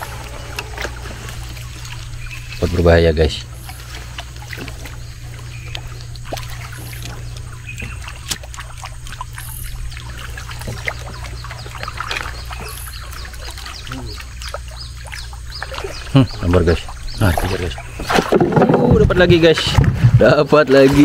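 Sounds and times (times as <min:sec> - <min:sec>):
steady low hum: 0:00.0 - 0:21.0
water splashing and trickling: 0:00.0 - 0:21.0.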